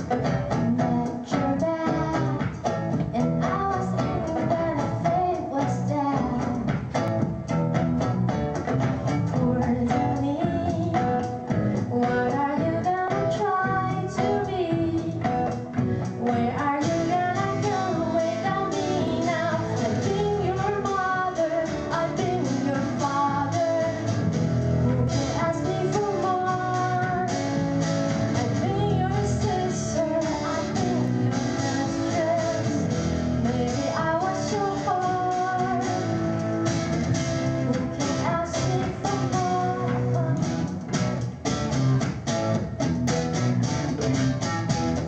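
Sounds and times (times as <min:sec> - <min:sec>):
woman singing: 0:00.0 - 0:07.1, 0:09.2 - 0:24.2, 0:24.8 - 0:36.4, 0:37.6 - 0:40.7
guitar and band accompaniment: 0:00.0 - 0:45.0.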